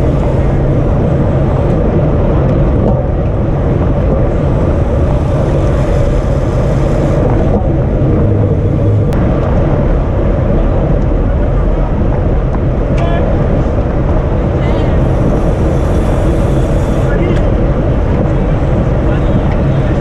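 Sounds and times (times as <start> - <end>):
road rumble: 0.0 - 20.0
wind rush: 0.0 - 20.0.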